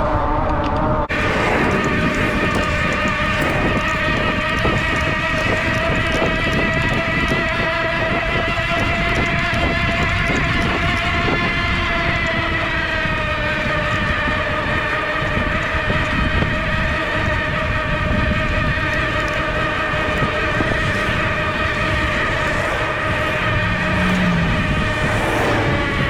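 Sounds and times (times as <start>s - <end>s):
wind on microphone: 0.0s - 26.0s
electric motor whining: 1.1s - 26.0s.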